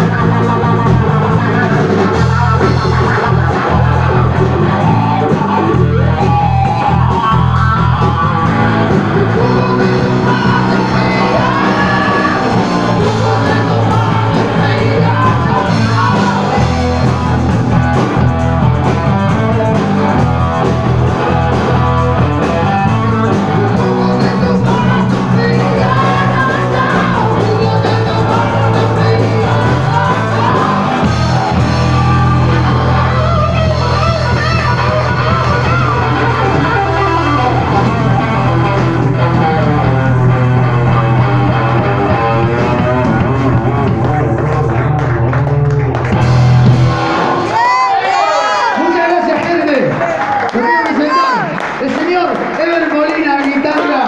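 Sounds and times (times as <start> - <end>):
person singing: 0.0 - 48.0
bass guitar: 0.0 - 52.1
drums: 0.0 - 54.0
electric guitar: 0.0 - 54.0.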